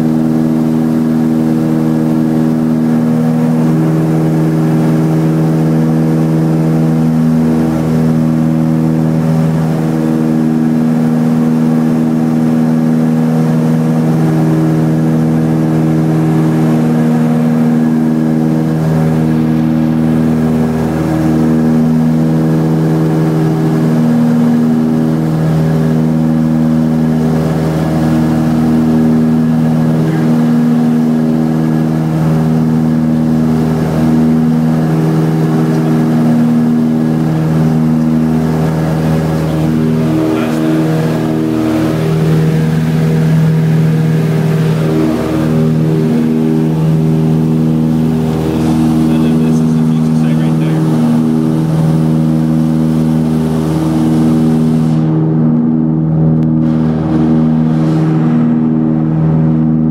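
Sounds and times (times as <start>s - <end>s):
propeller plane drone: 0.0s - 59.9s.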